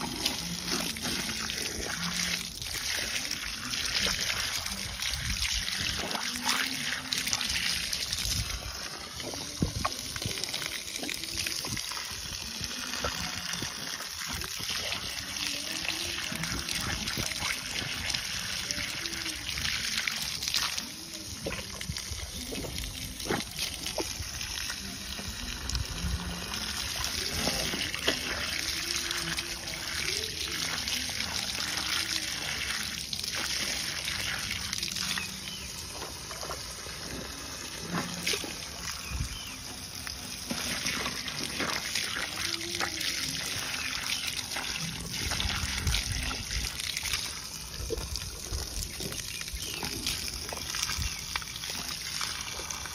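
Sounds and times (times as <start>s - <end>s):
water from hose splashing: 0.0s - 52.9s.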